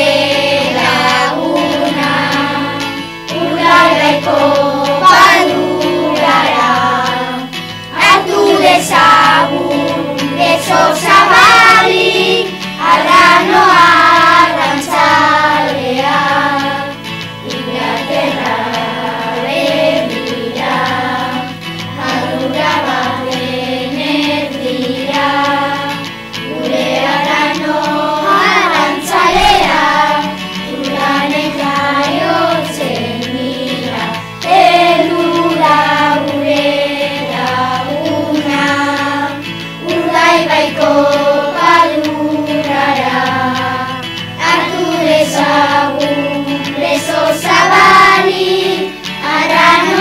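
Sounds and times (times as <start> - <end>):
children singing: 0.0 - 50.0
instrumental backing music: 0.0 - 50.0.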